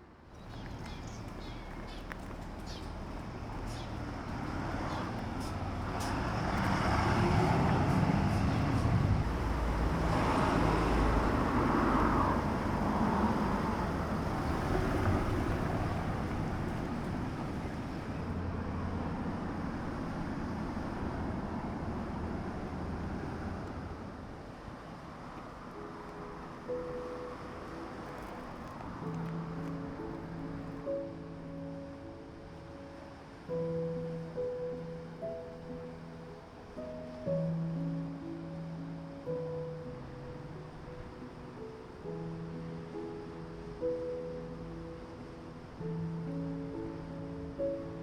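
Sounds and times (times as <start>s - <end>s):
vehicles passing: 0.0s - 48.0s
steady engine hum: 0.1s - 43.7s.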